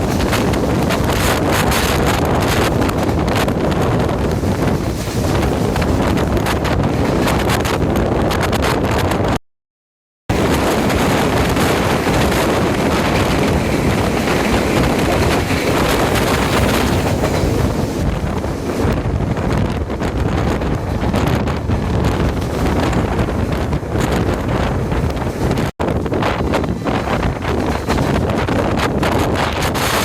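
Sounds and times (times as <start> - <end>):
train running at speed: 0.0 - 9.3, 10.3 - 30.0
wind rushing over microphone: 0.0 - 9.4, 10.3 - 30.0.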